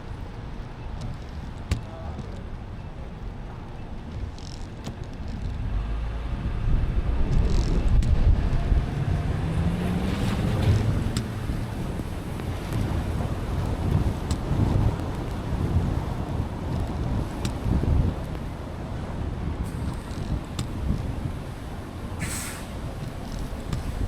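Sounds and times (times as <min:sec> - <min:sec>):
low engine tone: 0:00.0 - 0:24.0
tyres rumbling on wet road: 0:00.0 - 0:24.0.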